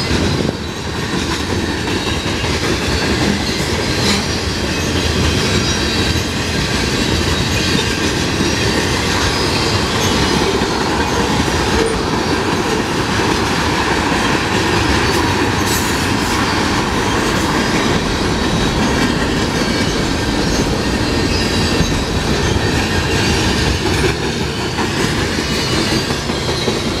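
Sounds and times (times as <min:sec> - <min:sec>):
freight train rolling by: 0:00.0 - 0:27.0.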